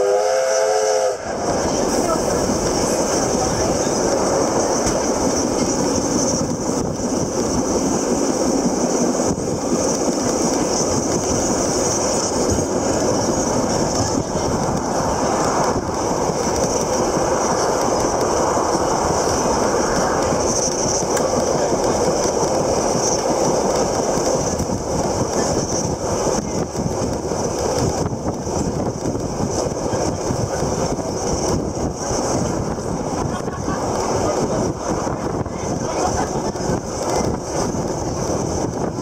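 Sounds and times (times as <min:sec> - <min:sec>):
train wheel and carriage noise: 0:00.0 - 0:39.0.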